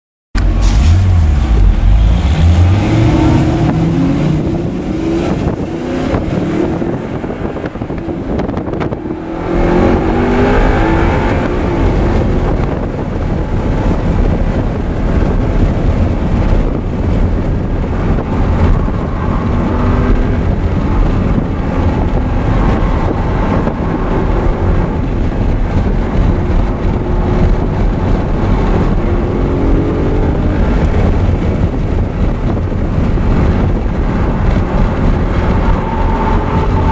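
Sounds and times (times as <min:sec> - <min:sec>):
wind noise: 0:00.4 - 0:36.9
car engine revving hard: 0:00.5 - 0:36.9.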